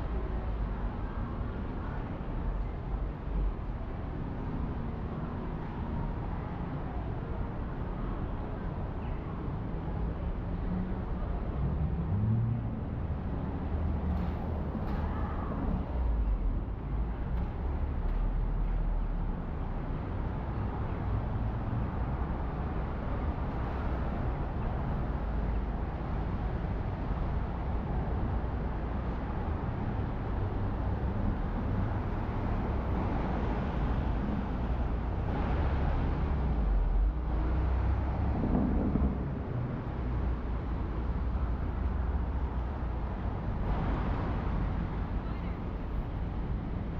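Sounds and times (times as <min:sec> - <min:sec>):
low rumble of engines: 0:00.0 - 0:46.9
vehicles passing: 0:00.0 - 0:46.9.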